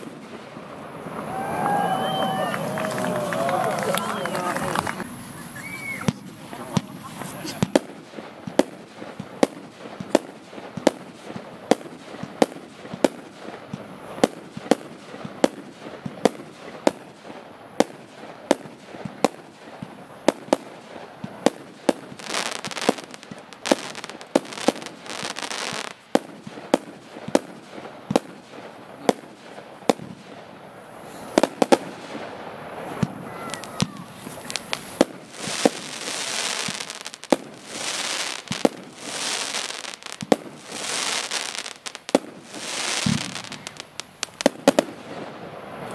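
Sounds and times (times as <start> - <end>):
firework shots firing: 0.0 - 1.9, 6.0 - 45.9
rushing firework bursts: 0.0 - 45.9.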